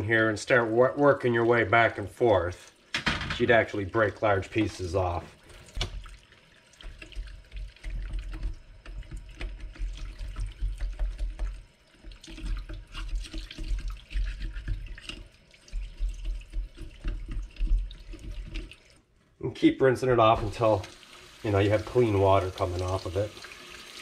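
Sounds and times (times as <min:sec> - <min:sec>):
faucet water splashing in steel sink: 0:00.4 - 0:19.0, 0:20.2 - 0:24.0.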